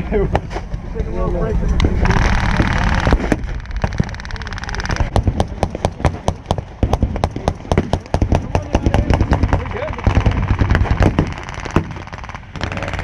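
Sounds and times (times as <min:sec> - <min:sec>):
sharp separate gunshots: 0:02.0 - 0:13.0
blank gunfire rapid rattle: 0:02.1 - 0:13.0.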